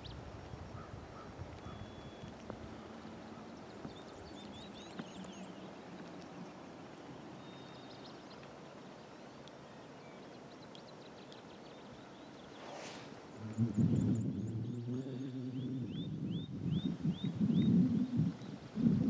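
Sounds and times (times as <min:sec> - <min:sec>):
birds chirping and trilling: 0:00.0 - 0:18.6.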